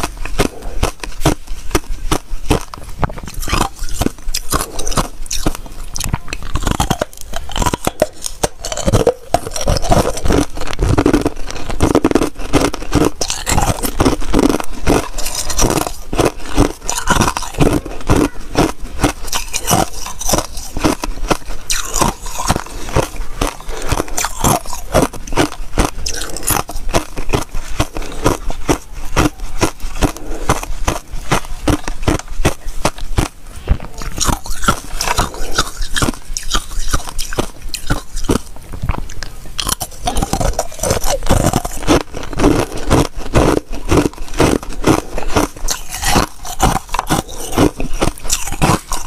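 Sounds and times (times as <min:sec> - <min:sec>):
ice crunching while chewed: 0:00.0 - 0:49.0.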